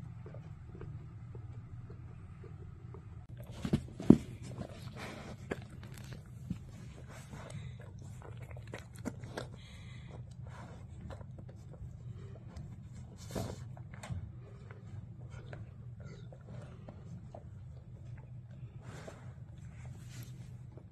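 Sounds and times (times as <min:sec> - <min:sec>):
dog sniffing and snuffling: 0:03.3 - 0:20.9.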